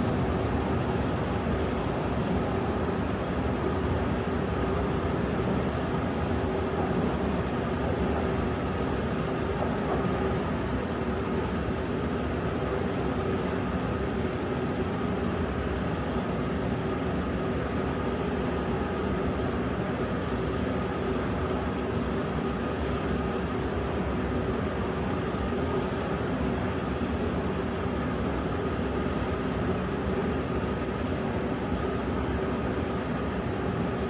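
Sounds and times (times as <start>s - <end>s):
underground train hum and rumble: 0.0s - 34.0s.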